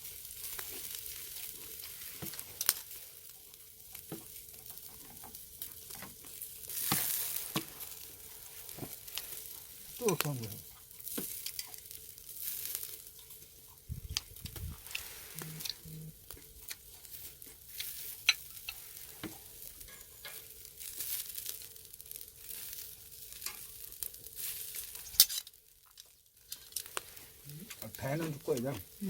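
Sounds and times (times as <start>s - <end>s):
meat sizzling on a grill: 0.0s - 29.0s.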